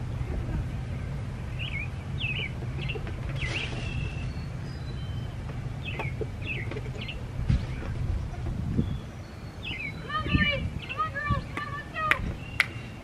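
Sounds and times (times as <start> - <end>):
small songbirds chirping: 0.0 - 13.0
steady low rumble: 0.0 - 13.0.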